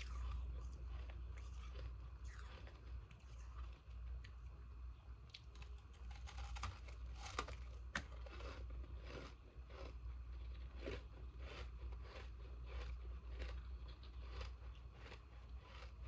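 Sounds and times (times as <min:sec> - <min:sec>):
ice being chewed: 0:00.0 - 0:04.6, 0:05.3 - 0:16.0.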